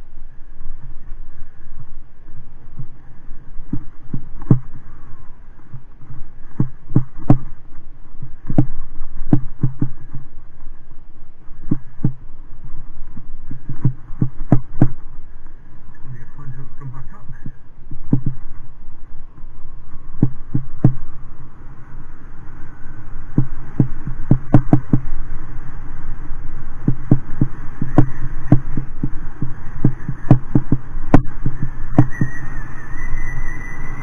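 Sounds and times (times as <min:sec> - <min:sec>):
thin steady whine: 0:00.0 - 0:34.0
wind buffeting microphone: 0:00.0 - 0:34.0.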